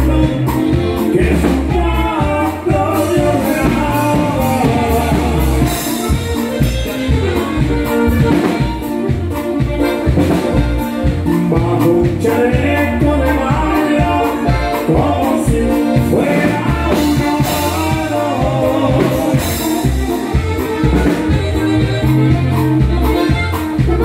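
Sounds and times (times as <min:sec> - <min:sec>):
live band playing: 0:00.0 - 0:24.0.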